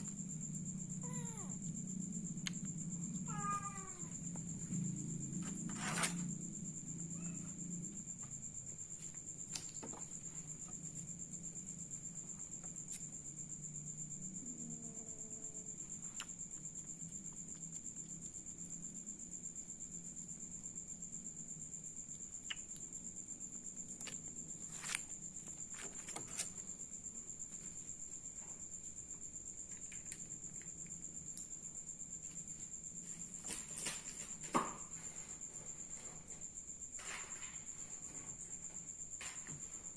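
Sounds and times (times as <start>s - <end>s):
cricket chirping: 0.0s - 39.9s
high-pitched insect trill: 0.0s - 39.9s.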